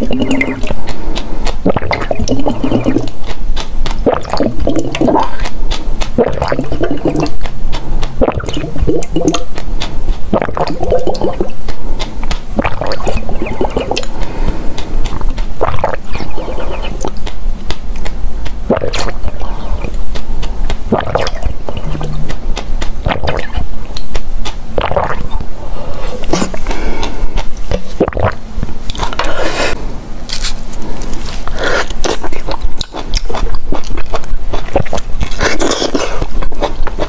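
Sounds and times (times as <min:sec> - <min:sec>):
gulping and swallowing: 0:00.0 - 0:29.4, 0:31.4 - 0:37.0
mouth clicks: 0:00.0 - 0:29.8.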